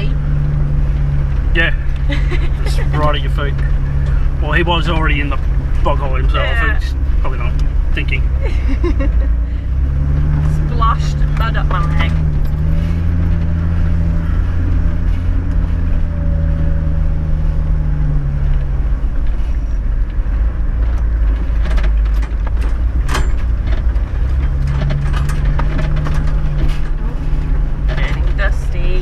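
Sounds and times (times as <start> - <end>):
car engine under load: 0.0 - 29.0
vehicle knocking over ruts: 0.0 - 29.0.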